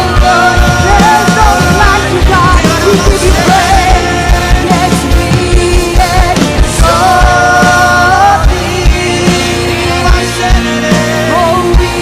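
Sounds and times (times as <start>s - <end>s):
live worship band playing: 0.0s - 12.0s.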